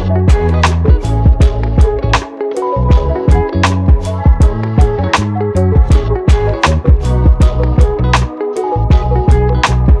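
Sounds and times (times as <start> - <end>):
drums and bass music: 0.0 - 10.0.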